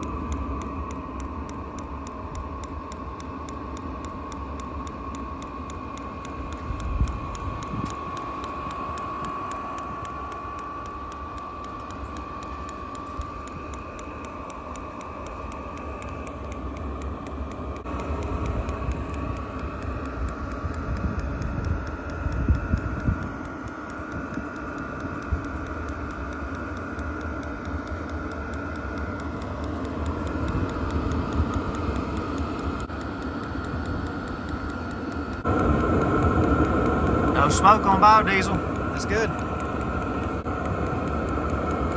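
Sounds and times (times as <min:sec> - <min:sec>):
fuel pump ticking: 0:00.0 - 0:41.9
heater blower whine: 0:00.0 - 0:41.9.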